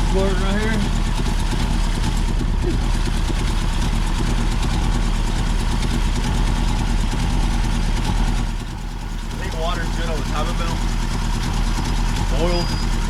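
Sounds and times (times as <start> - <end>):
car engine revving steadily: 0.0 - 13.0.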